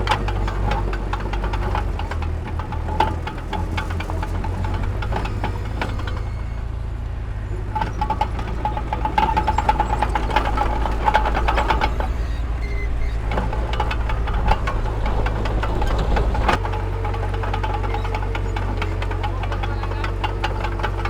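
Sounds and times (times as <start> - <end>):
diesel engine rumble: 0.0 - 21.0
machinery clanking and rattling: 0.0 - 21.0.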